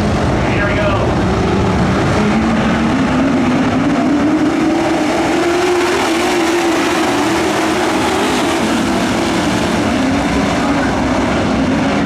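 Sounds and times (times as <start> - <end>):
race truck engines running: 0.0 - 12.0
truck engine accelerating: 0.0 - 12.0.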